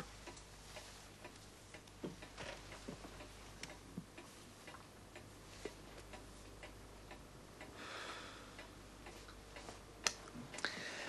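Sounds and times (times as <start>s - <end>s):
clock ticking: 0.0s - 7.8s, 8.5s - 10.8s.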